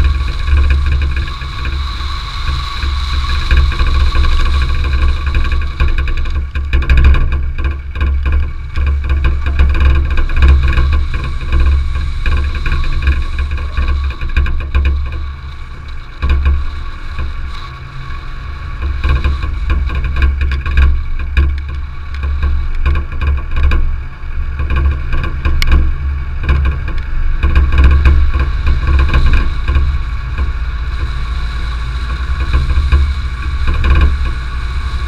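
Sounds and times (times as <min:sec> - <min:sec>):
mechanical whine: 0:00.0 - 0:35.0
tyres and engine rumbling on gravel: 0:00.0 - 0:35.0.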